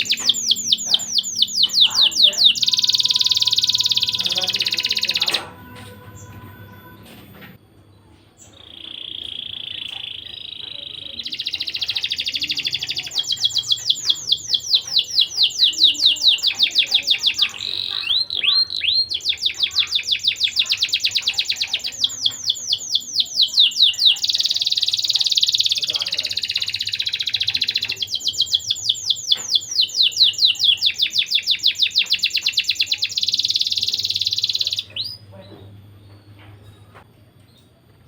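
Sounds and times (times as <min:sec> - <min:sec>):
canary singing with rolling trills: 0:00.0 - 0:38.0.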